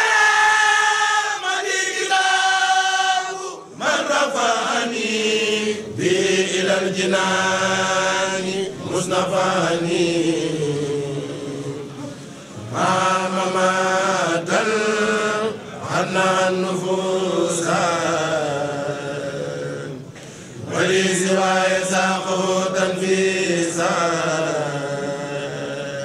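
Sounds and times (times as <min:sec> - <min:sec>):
men chanting together: 0:00.0 - 0:26.0.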